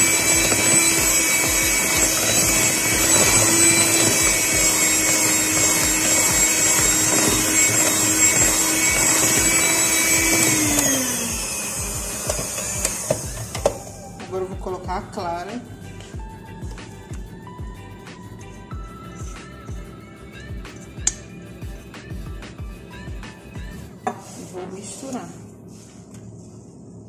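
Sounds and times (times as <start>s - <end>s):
electric hand mixer running: 0.0s - 24.0s.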